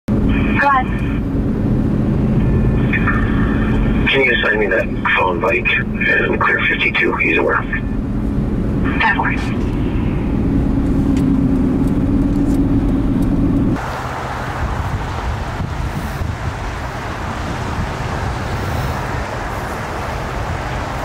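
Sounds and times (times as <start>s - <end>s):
car engine and tyre drone: 0.1s - 21.0s
road and traffic hiss: 0.2s - 21.0s.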